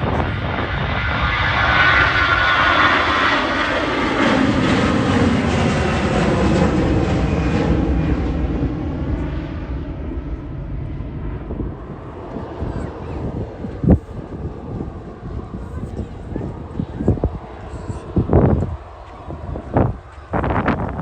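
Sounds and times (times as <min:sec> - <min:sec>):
airliner engine passing: 0:00.0 - 0:21.0.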